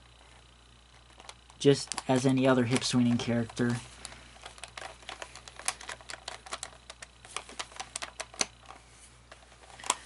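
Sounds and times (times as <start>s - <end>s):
hard plastic parts clicking: 1.1s - 10.0s.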